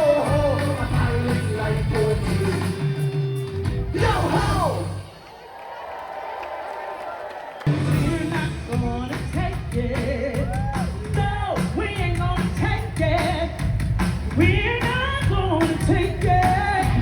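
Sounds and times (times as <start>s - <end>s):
song with singer and band: 0.0s - 5.2s, 7.7s - 17.0s.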